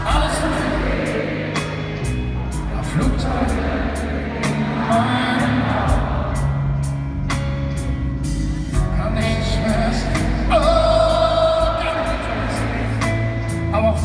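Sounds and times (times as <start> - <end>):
keyboard: 0.0 - 14.0
upright double bass: 0.0 - 14.0.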